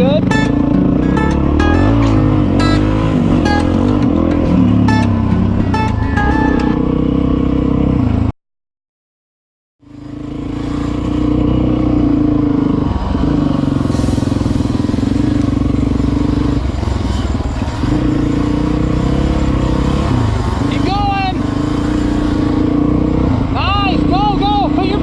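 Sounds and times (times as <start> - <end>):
dirt bike engine running: 0.0 - 8.2, 9.8 - 25.0.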